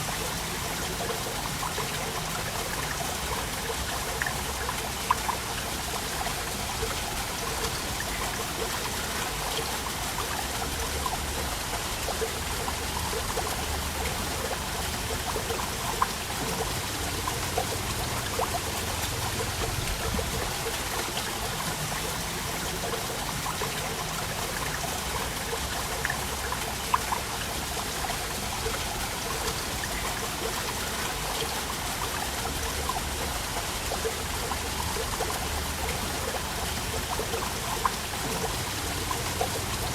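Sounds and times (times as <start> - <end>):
water splashes and trickles: 0.0 - 39.9.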